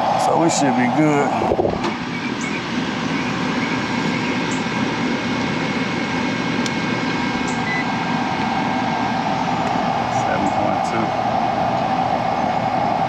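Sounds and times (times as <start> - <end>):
air conditioning unit running: 0.0 - 13.0.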